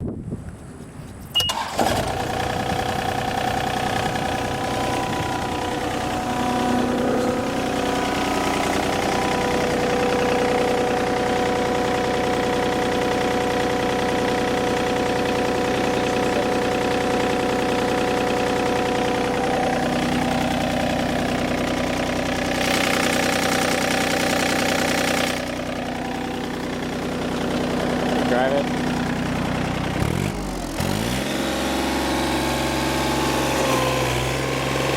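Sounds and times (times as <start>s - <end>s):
diesel engine running: 1.4s - 34.9s.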